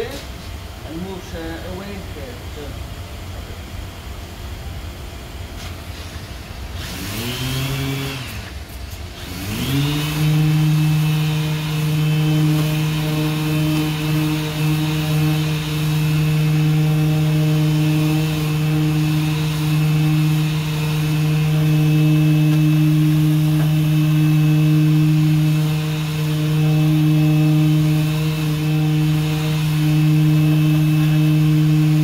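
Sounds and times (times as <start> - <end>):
orbital sander running: 3.3 - 32.0.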